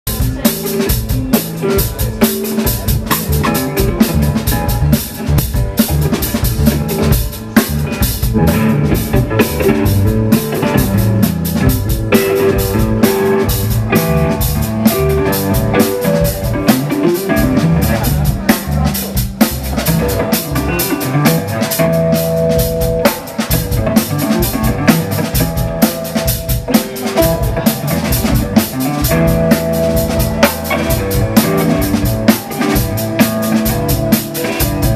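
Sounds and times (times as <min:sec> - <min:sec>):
drum kit steady beat: 0:00.0 - 0:34.9
guitar: 0:00.0 - 0:34.9
keyboards: 0:00.1 - 0:34.9.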